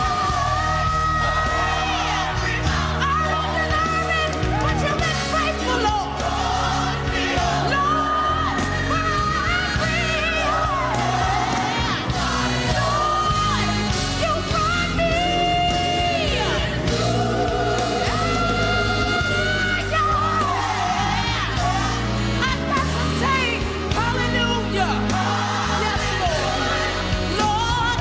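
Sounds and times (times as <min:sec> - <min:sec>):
band accompaniment: 0:00.0 - 0:28.0
person singing gospel: 0:00.0 - 0:28.0.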